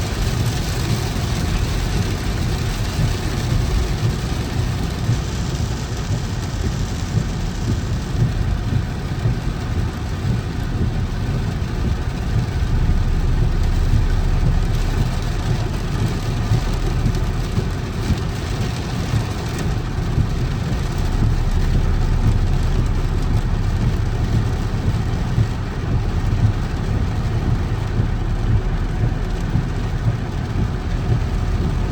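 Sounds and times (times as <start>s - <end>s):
car engine and road rumble: 0.0s - 31.9s
rain hiss: 0.0s - 31.9s.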